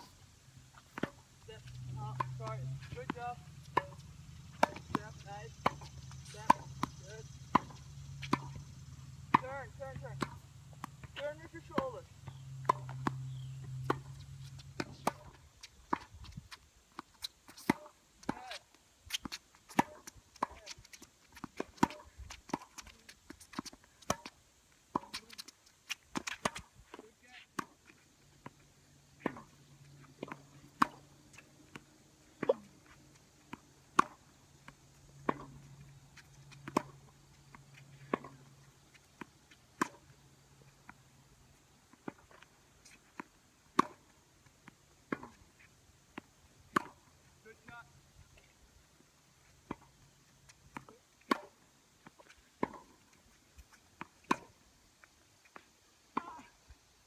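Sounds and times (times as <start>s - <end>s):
tennis balls struck by rackets: 0.0s - 16.3s, 16.9s - 48.5s, 49.5s - 54.6s, 55.5s - 56.5s.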